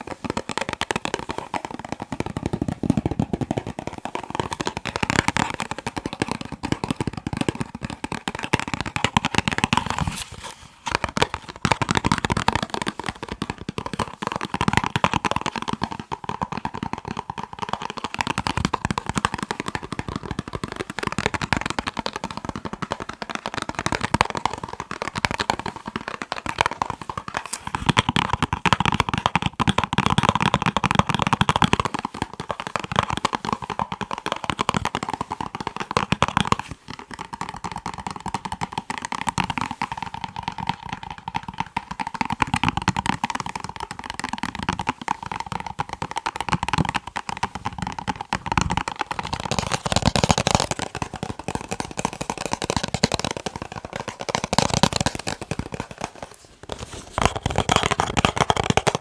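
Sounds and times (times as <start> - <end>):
fingers tapping on box: 0.0 - 59.0.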